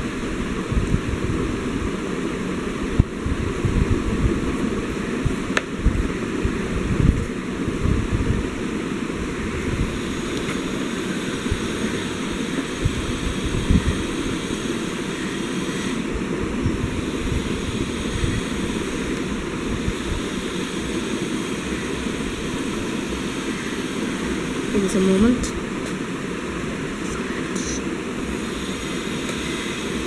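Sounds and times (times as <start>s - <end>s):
rushing rumbling background noise: 0.0s - 30.0s.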